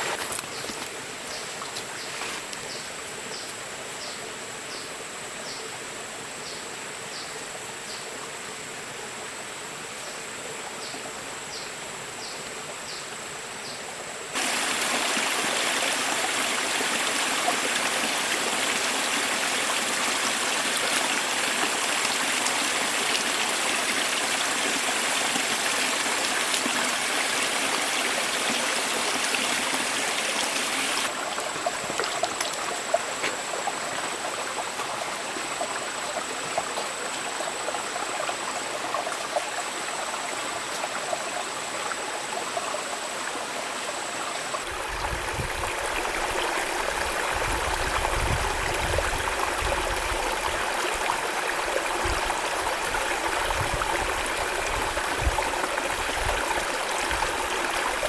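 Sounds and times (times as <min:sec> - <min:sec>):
stream water running: 0:00.0 - 0:58.0.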